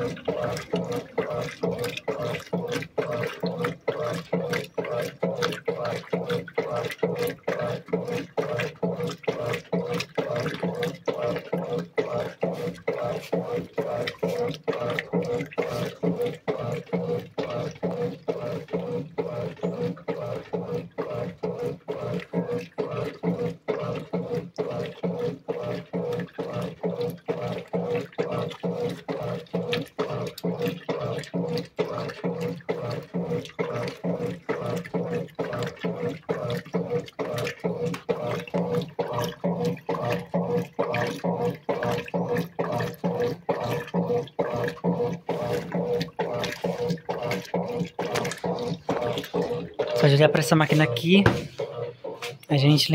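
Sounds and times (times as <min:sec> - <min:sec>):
washing machine water sloshing: 0:00.0 - 0:52.9.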